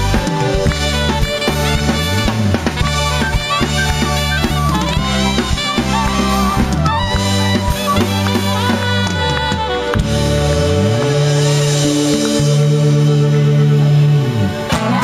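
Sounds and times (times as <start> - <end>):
drum kit: 0.0 - 15.0
higher melodic parts: 0.0 - 15.0
sliding bass line: 0.0 - 15.0.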